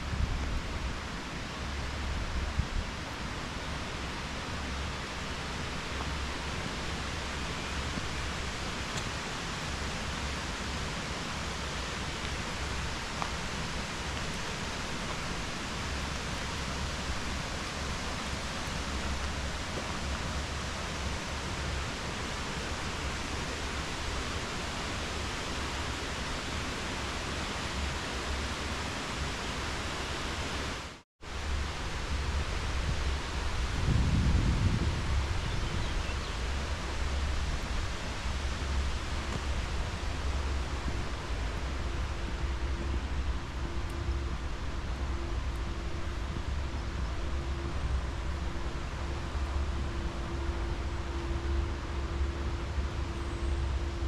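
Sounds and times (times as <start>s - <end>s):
stream and waterfall rushing: 0.0s - 54.0s.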